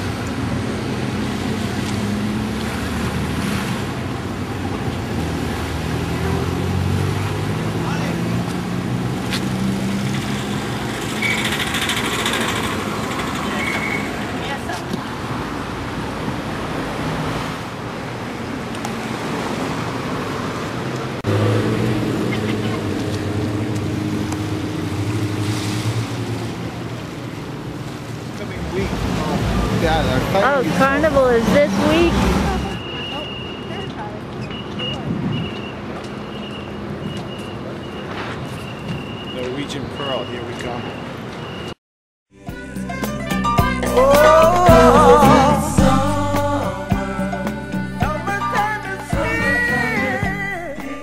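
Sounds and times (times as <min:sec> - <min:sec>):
road traffic engine hum: 0:00.0 - 0:51.0.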